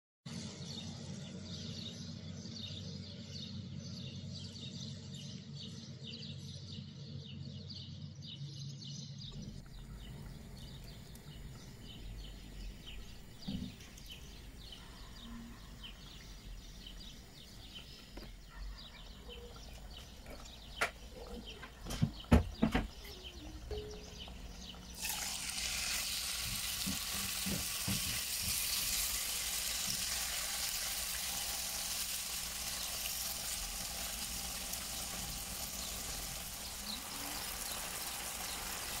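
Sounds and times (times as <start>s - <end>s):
small birds chirping: 0.4s - 39.0s.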